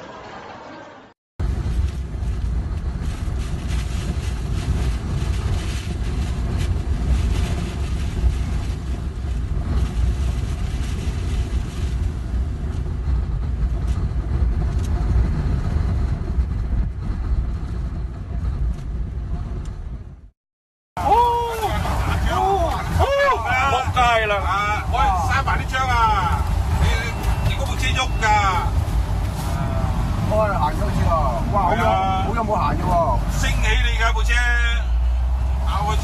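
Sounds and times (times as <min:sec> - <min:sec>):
strong wind buffeting microphone: 0:01.4 - 0:20.3, 0:21.0 - 0:36.0.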